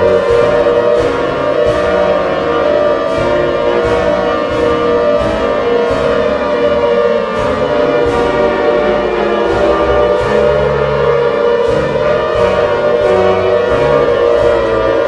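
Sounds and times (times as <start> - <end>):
loud music: 0.0 - 15.0
wailing siren-like tone: 0.0 - 15.0.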